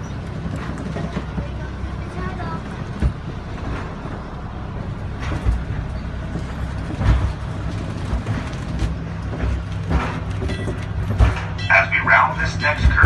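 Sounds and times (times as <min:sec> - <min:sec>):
wheels knocking and clacking: 0:00.0 - 0:04.3, 0:05.1 - 0:13.0
mine train rumbling on track: 0:00.0 - 0:13.0.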